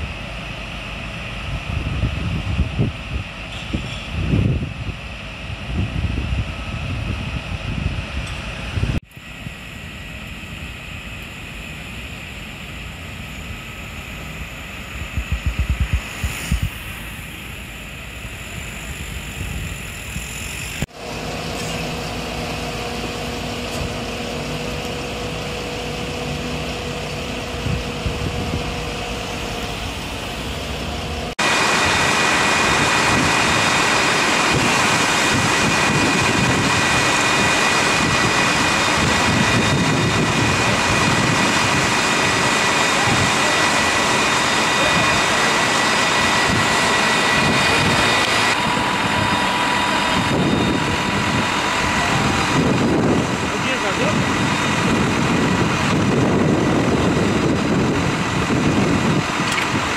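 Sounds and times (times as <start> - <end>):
fire engine pumps droning: 0.0 - 59.9
high-pitched steady drone: 0.0 - 59.9.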